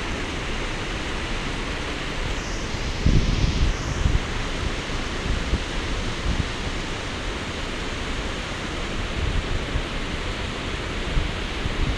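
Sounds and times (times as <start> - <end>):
wind rumble on microphone: 0.0 - 11.9.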